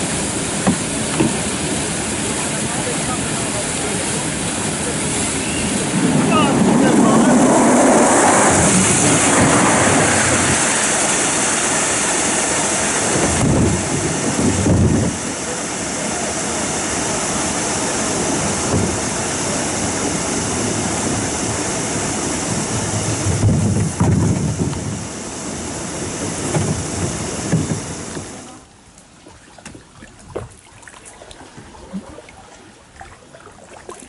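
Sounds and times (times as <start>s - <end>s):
wind rumbling on microphone: 0.0s - 28.5s.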